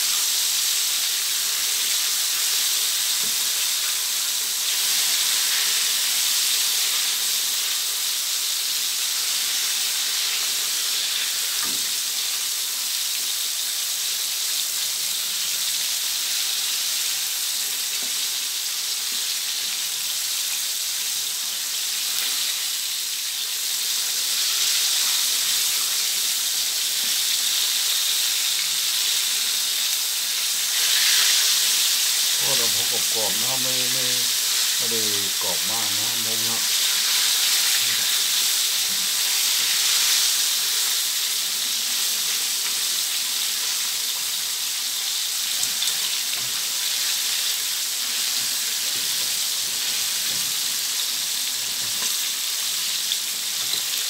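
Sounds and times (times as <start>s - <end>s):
chicken deep-frying in oil: 0.0s - 54.0s.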